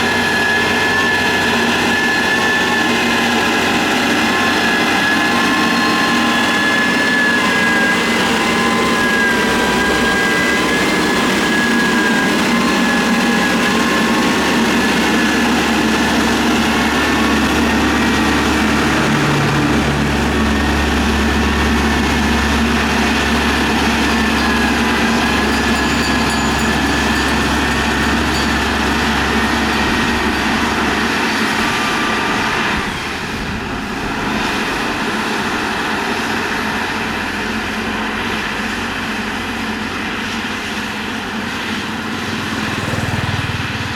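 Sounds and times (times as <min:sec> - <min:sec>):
diesel engine whine: 0:00.0 - 0:43.9
low engine drone: 0:00.0 - 0:43.9.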